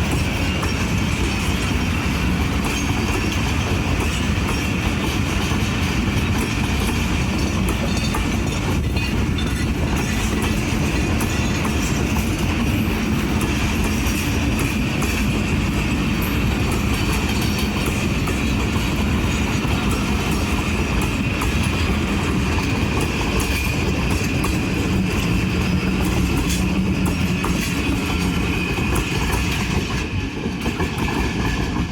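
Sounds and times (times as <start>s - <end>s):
train wheels clickety-clack: 0.0s - 31.9s.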